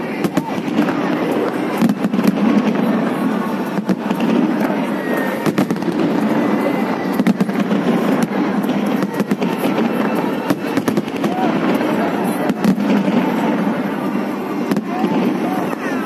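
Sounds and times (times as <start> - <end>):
fireworks crackling: 0.0 - 16.0
firework shells bursting with bangs: 0.1 - 15.9.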